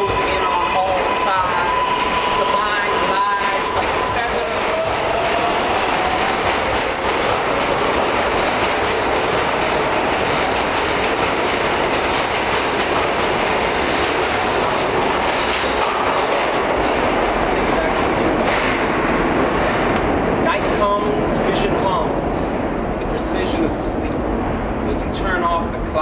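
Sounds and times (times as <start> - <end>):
train wheels on rails: 0.0 - 22.1.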